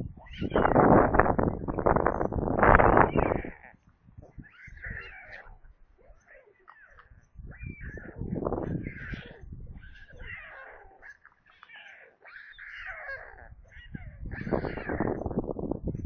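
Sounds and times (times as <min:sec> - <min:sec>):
bird chicks mewing calls: 0:00.0 - 0:16.0.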